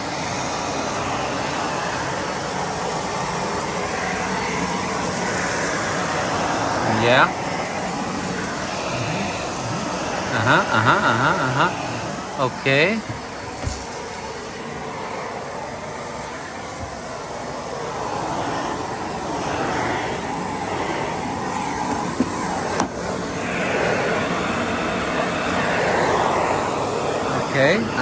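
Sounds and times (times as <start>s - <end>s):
litter going through vacuum: 0.0s - 28.0s
vacuum cleaner suction: 0.0s - 28.0s.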